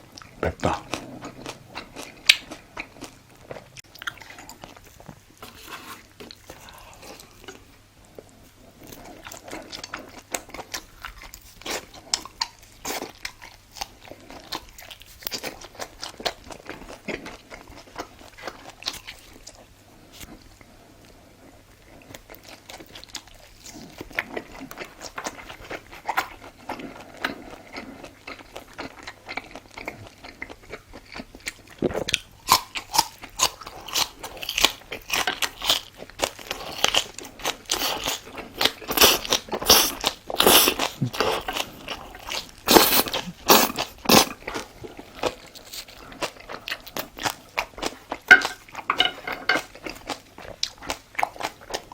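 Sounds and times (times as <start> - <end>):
person chewing crunchy food: 0.0 - 51.9.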